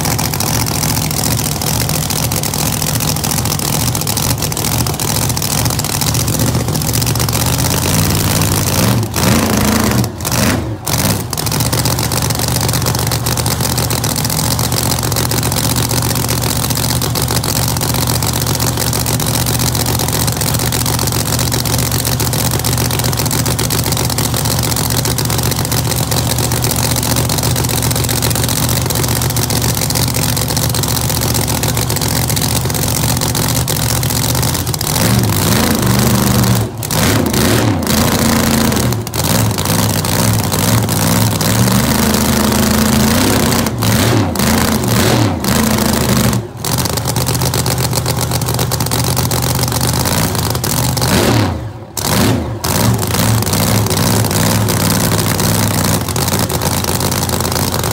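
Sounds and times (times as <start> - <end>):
race car engine idling: 0.0 - 57.9.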